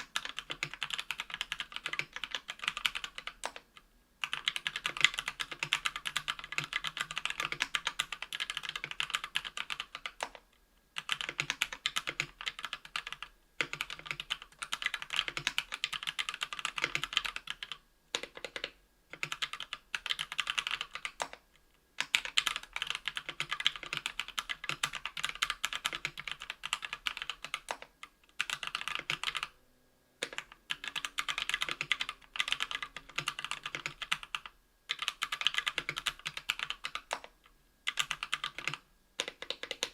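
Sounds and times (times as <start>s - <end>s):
fast keyboard typing: 0.0s - 3.6s, 4.2s - 10.4s, 11.0s - 21.4s, 22.0s - 29.6s, 30.2s - 39.9s.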